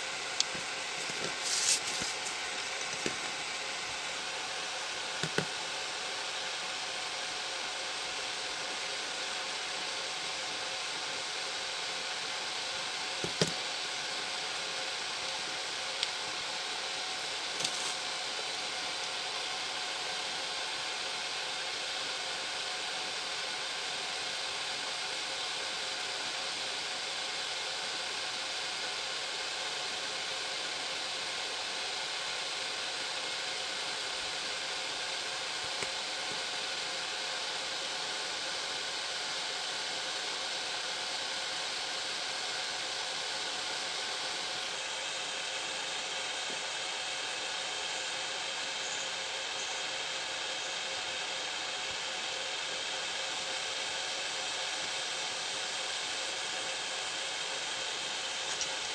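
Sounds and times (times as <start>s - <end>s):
steady hiss: 0.0s - 58.9s.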